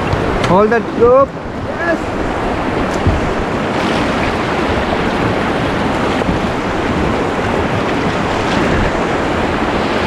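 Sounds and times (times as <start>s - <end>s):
whitewater rushing: 0.0s - 10.0s
wind buffeting microphone: 0.0s - 10.0s.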